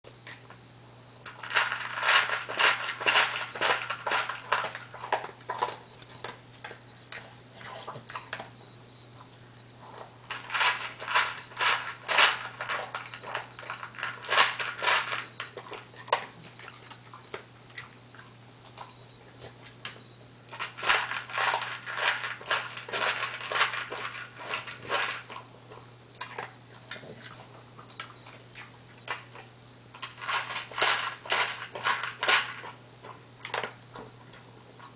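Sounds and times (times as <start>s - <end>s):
dog crunching dry kibble: 1.2s - 34.9s.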